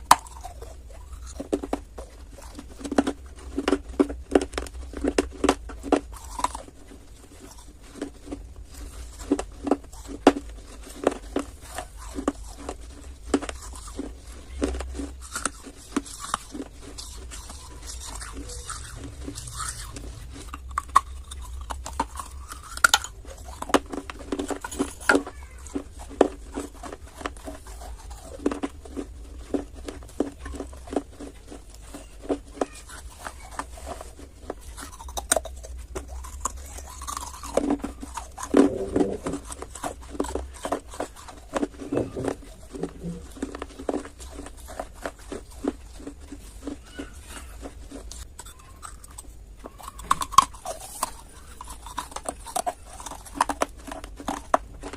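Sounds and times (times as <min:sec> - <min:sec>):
low steady hum: 0:00.0 - 0:54.9
person chewing crunchy clay: 0:00.0 - 0:54.9.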